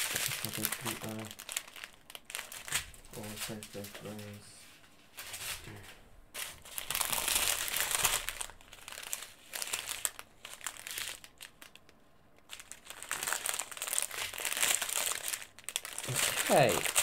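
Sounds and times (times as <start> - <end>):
plastic bags crinkling: 0.0 - 4.4, 6.4 - 17.0.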